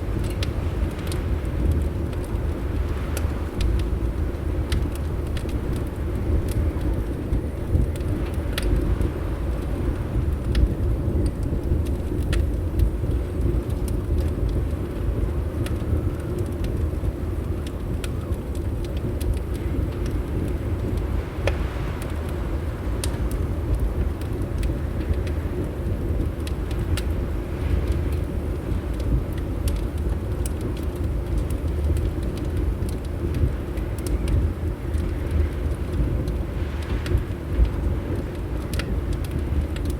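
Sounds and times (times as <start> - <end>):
fire pops and snaps: 0.0 - 39.9
wind against windows: 0.0 - 39.9
wood fire crackling: 0.0 - 39.9.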